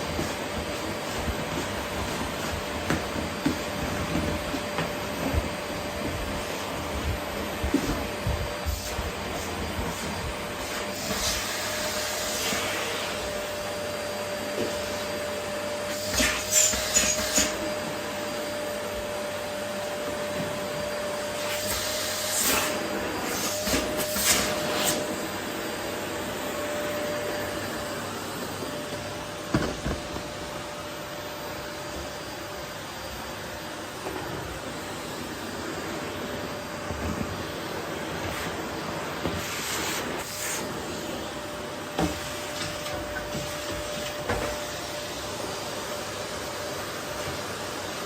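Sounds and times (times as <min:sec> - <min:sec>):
vacuum cleaner whining: 0:00.0 - 0:48.0.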